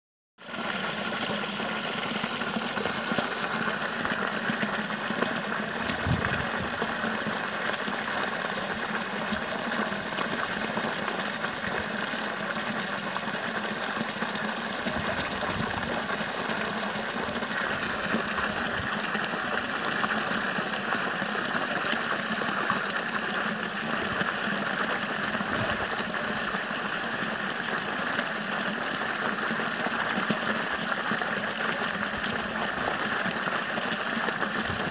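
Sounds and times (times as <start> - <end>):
water gushing and splashing: 0.4 - 34.9.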